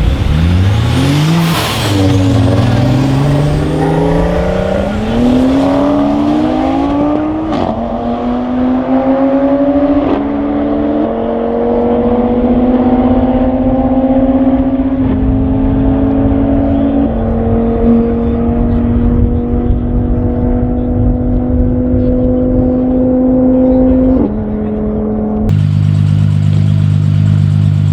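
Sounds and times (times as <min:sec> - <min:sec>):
car engine at full throttle: 0:00.0 - 0:27.9.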